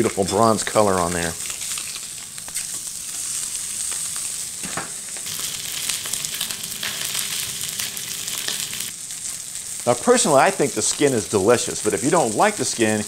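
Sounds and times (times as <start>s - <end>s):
fish sizzling in hot oil: 1.1s - 13.0s.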